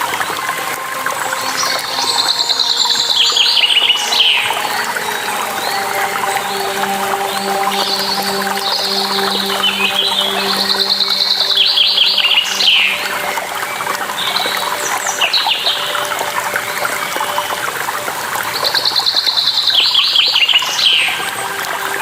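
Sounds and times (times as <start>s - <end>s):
waterfall rushing: 0.0s - 22.0s
songbirds singing: 0.1s - 22.0s.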